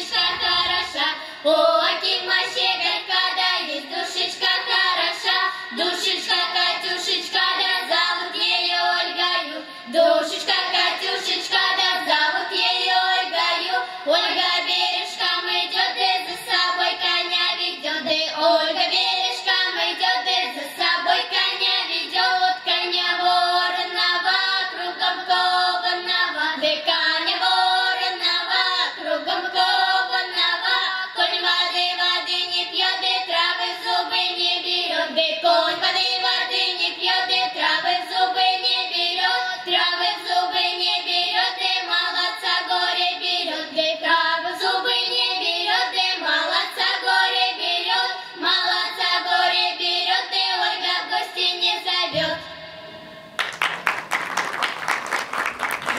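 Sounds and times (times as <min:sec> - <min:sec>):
girls singing folk song: 0:00.0 - 0:53.2.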